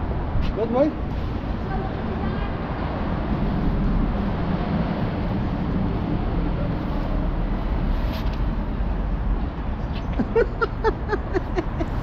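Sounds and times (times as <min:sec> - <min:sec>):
road traffic rumble echoing: 0:00.0 - 0:12.0.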